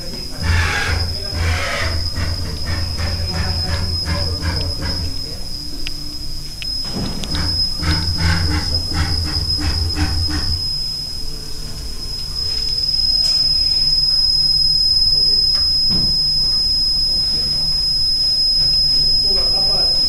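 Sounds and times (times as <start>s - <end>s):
loud steady hissing: 0.0s - 20.0s
milling machine whine: 0.0s - 20.0s.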